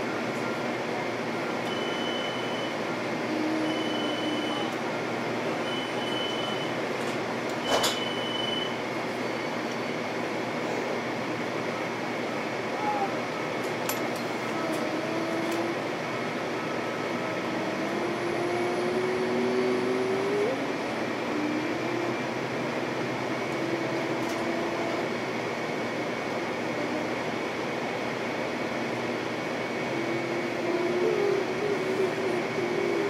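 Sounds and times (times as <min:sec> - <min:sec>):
train wheels rumbling on rail: 0:02.8 - 0:33.0.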